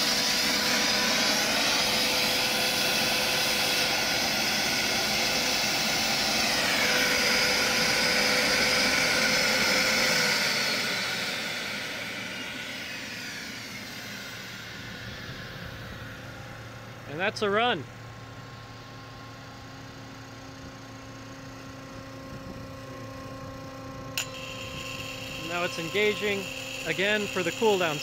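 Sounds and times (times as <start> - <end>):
small jet engine whining: 0.0 - 28.0.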